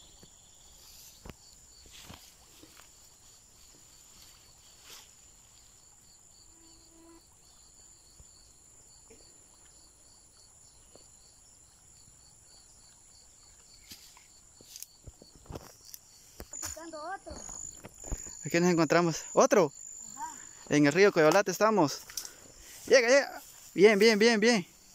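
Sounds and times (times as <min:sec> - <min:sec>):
high insect chirp: 0:00.0 - 0:24.9
insect trill: 0:00.0 - 0:24.9.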